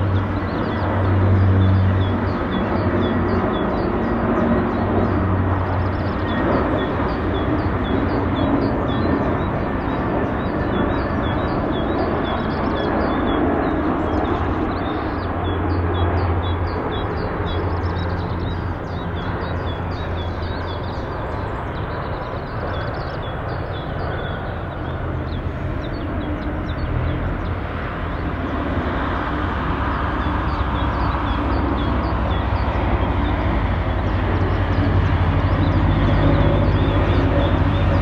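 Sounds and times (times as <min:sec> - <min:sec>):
distant jet engines rumbling: 0:00.0 - 0:38.0.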